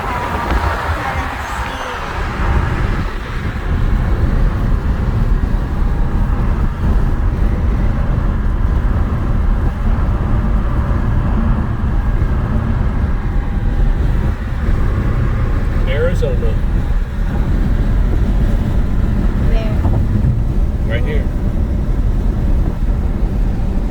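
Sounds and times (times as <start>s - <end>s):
vehicle engine and tyre rumble: 0.0s - 23.9s.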